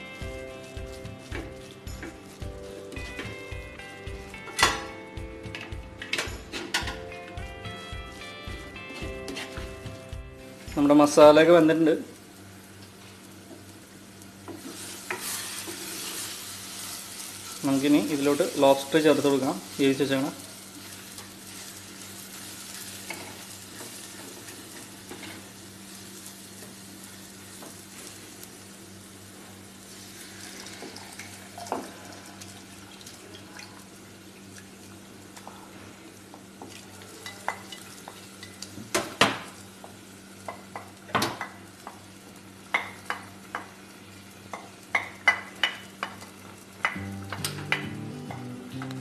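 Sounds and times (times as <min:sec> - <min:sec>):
food sizzling in clay pot: 0:00.0 - 0:49.0.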